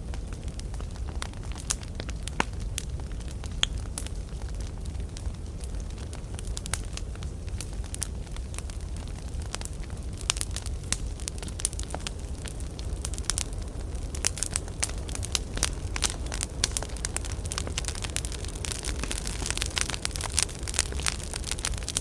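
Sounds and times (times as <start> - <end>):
firewood crackling and popping: 0.0 - 22.0
low rumble of fire: 0.0 - 22.0.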